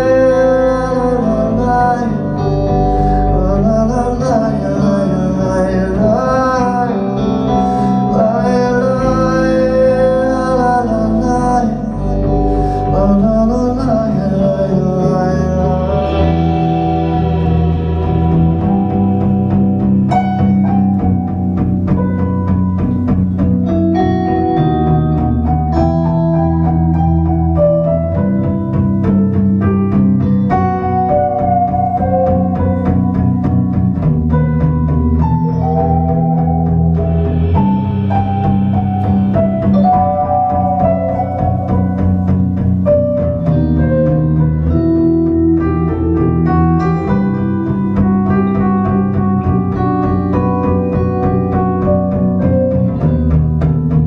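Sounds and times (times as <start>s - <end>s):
held bass notes: 0.0s - 54.0s
keyboard melody: 0.0s - 54.0s
live band playing: 0.0s - 54.0s.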